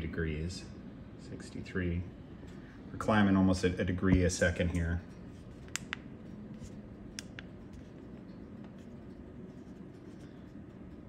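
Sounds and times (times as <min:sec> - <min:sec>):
oven humming: 0:00.0 - 0:11.0.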